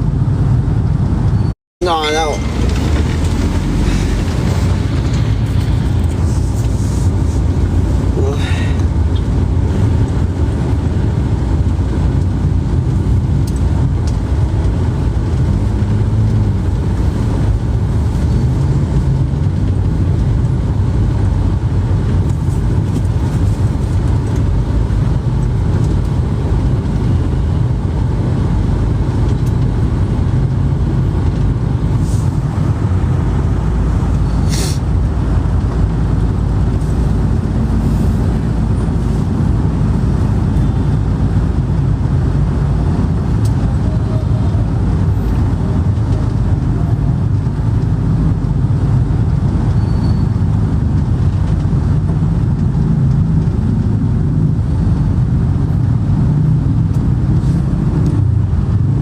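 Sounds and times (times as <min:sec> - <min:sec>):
vehicle rumble: 0:00.0 - 0:59.0.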